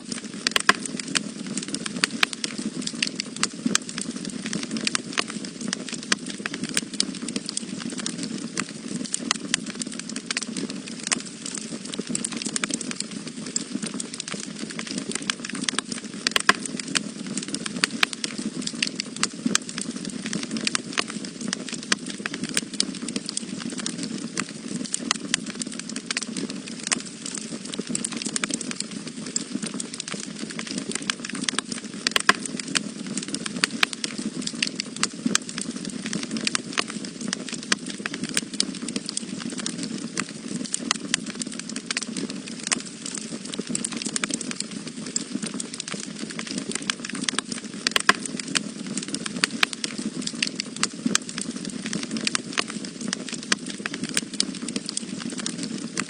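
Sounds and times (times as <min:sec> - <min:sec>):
fire crackling and popping: 0:00.0 - 0:56.0
low rush of flames: 0:00.0 - 0:56.0.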